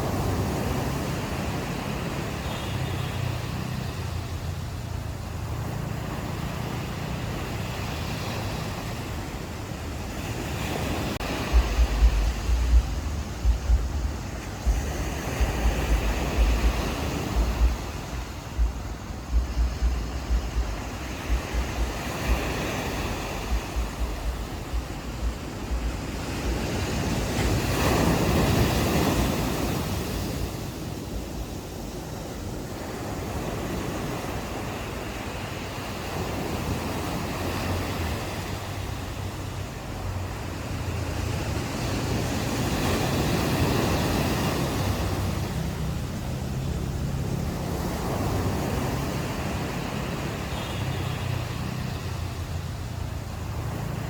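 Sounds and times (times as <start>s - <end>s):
ocean waves washing onto beach: 0.0s - 54.0s
wind buffeting microphone: 4.0s - 54.0s.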